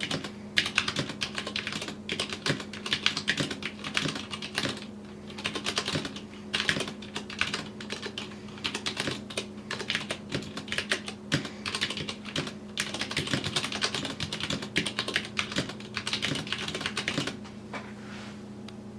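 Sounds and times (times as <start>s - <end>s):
mechanical keyboard typing: 0.0s - 17.4s
faint steady hum: 0.0s - 18.9s.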